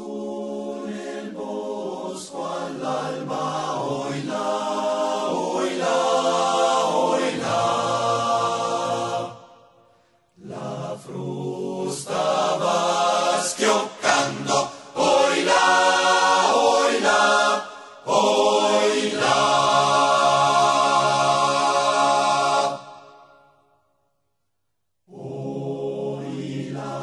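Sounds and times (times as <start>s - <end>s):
choir singing a cappella: 0.0s - 23.6s, 25.1s - 27.0s.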